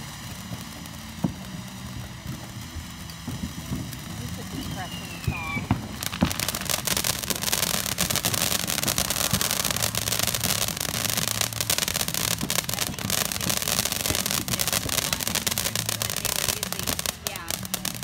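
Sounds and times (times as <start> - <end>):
firework fountain hissing and crackling: 0.0 - 18.0.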